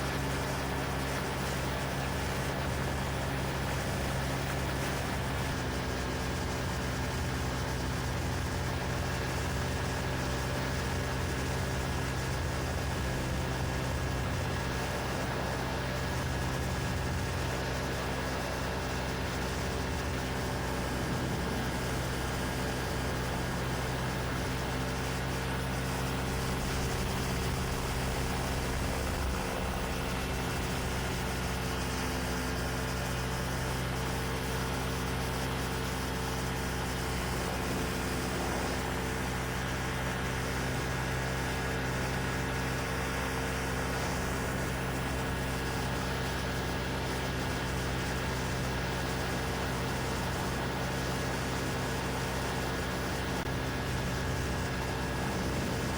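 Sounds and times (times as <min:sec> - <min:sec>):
ultralight engine and propeller: 0:00.0 - 0:55.9.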